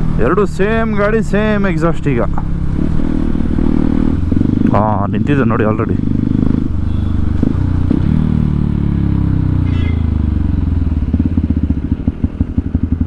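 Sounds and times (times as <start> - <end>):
motorcycle engine running loud: 0.0 - 13.0.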